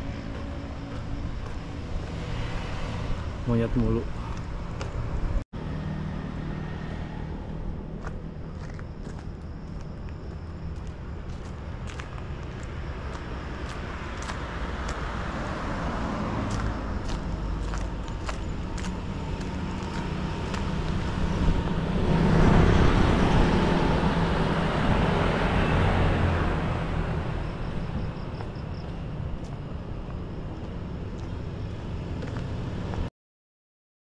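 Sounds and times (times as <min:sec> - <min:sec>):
vehicle passing by: 0:00.0 - 0:09.8, 0:10.8 - 0:33.1.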